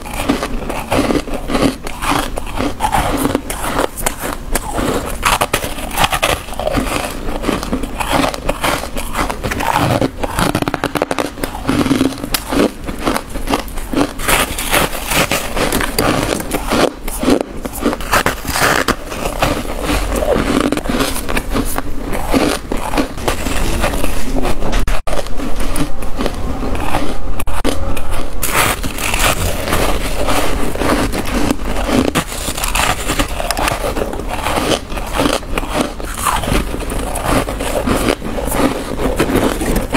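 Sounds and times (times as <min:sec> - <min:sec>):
crunching frost while chewing: 0:00.0 - 0:39.9.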